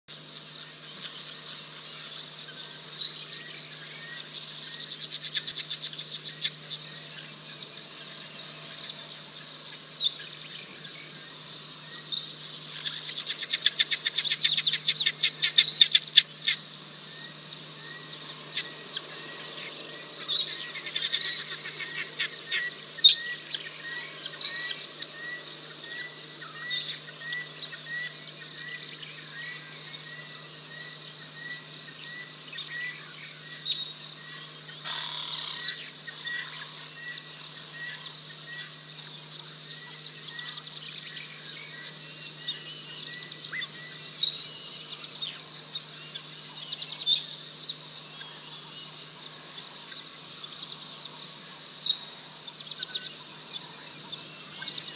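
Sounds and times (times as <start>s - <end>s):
low steady hum: 0.1s - 54.9s
high chirping bird trills: 0.3s - 54.9s.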